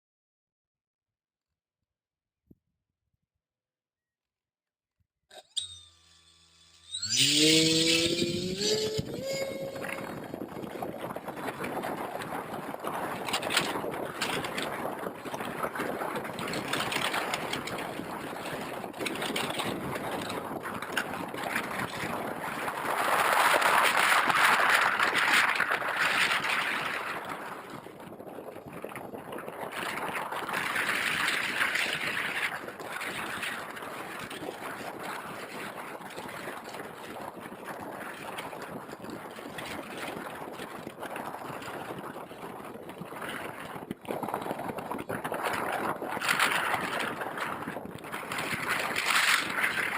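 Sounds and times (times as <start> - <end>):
wind rushing over microphone: 6.2 - 49.9.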